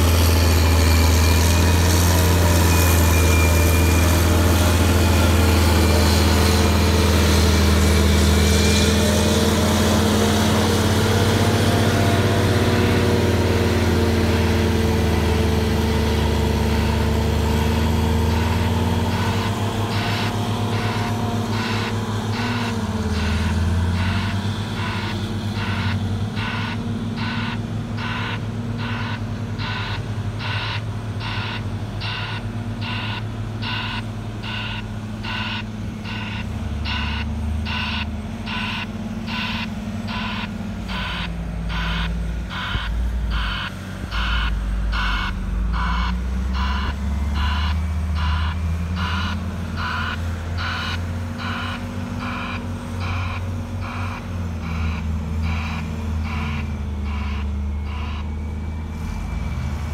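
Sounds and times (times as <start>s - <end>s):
heavy diesel machinery drone: 0.0s - 59.9s
pulsing reversing alarm: 0.0s - 59.9s.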